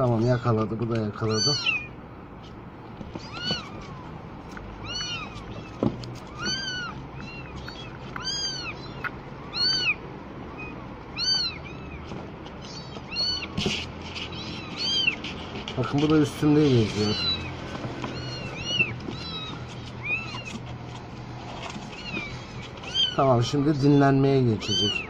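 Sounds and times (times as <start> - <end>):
kittens meowing: 0.0 - 2.0, 3.0 - 25.0.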